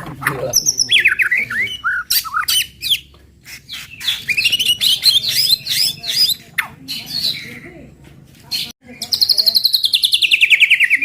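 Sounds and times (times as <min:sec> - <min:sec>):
bird chattering notes: 0:00.0 - 0:07.7, 0:08.5 - 0:11.0
songbird singing whistled notes: 0:00.5 - 0:03.1, 0:03.7 - 0:07.7, 0:08.6 - 0:11.0.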